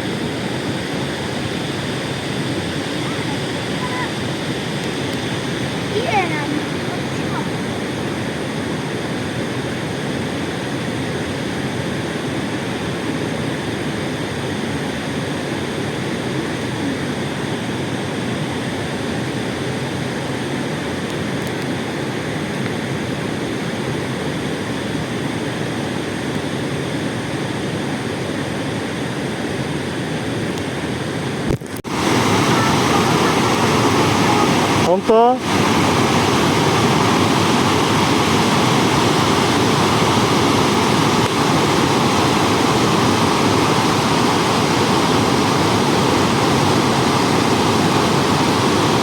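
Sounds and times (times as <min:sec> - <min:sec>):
rushing river water: 0:00.0 - 0:49.0.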